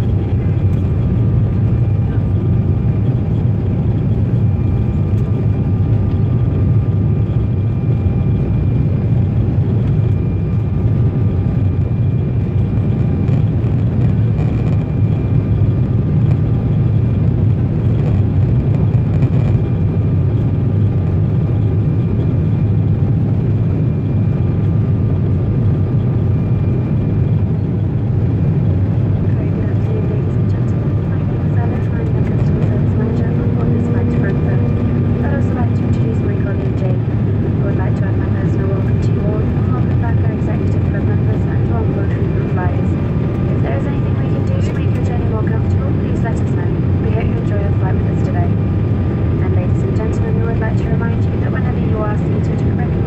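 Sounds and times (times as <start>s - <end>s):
faint whining tones: 0.0s - 53.0s
jet cabin deep rumble: 0.0s - 53.0s.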